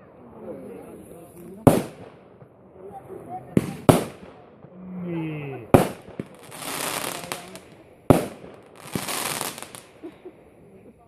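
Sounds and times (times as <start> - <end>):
fireworks crackling: 0.7 - 11.0
fireworks bursting: 0.9 - 10.8.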